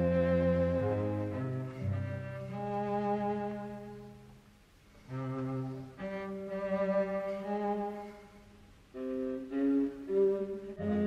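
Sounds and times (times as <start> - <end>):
bowed strings with cello: 0.0 - 11.0.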